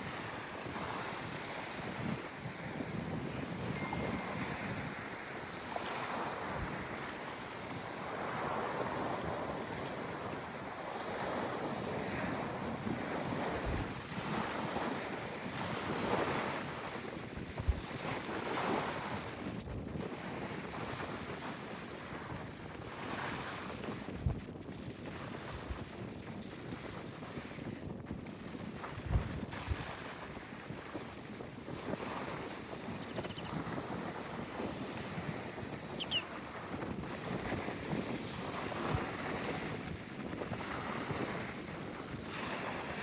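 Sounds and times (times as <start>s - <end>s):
sea waves washing ashore: 0.0s - 24.0s, 28.4s - 43.0s
wind gusting on microphone: 0.0s - 43.0s.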